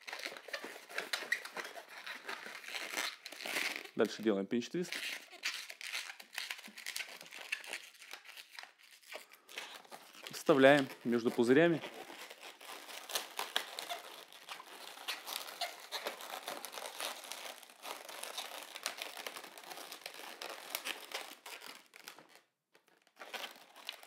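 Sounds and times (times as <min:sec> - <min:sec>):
balloons squeaking and rubbing: 0:00.0 - 0:24.0.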